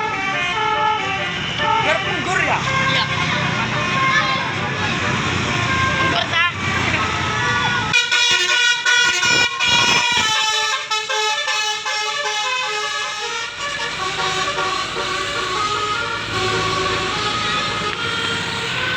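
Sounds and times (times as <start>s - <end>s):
multi-tone bus horn playing a tune: 0.0s - 6.3s, 7.2s - 18.9s.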